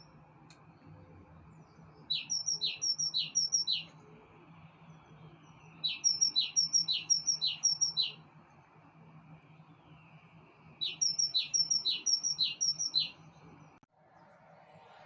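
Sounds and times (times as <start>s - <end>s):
songbird singing: 0.0s - 14.4s.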